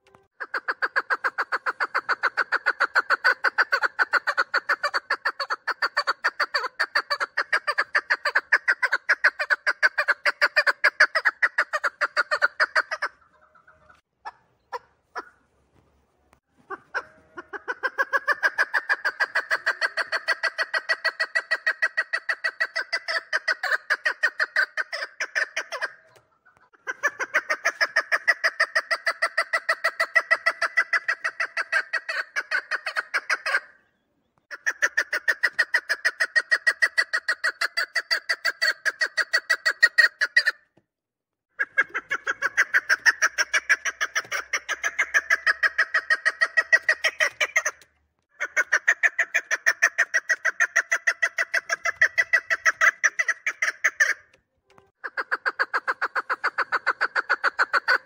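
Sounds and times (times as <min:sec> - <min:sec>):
partridge clucking calls: 0:00.0 - 0:15.5, 0:16.5 - 0:40.7, 0:41.5 - 0:58.0.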